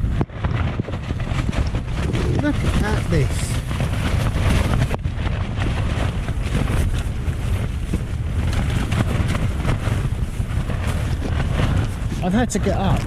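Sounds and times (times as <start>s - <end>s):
tent fabric flapping: 0.0s - 13.0s
wind rumble on microphone: 0.0s - 13.0s.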